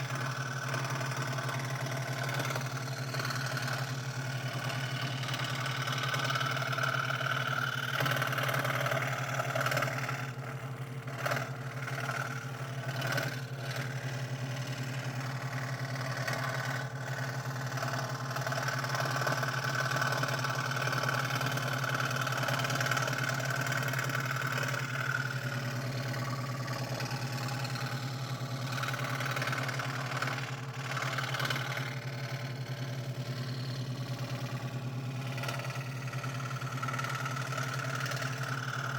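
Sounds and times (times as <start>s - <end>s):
scroll saw cutting wood: 0.0s - 38.9s.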